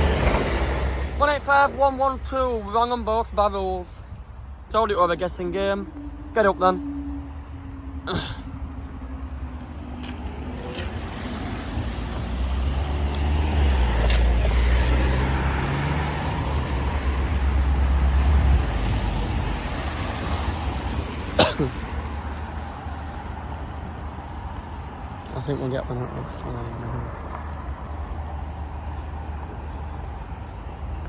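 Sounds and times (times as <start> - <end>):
road vehicles driving: 0.0 - 31.0.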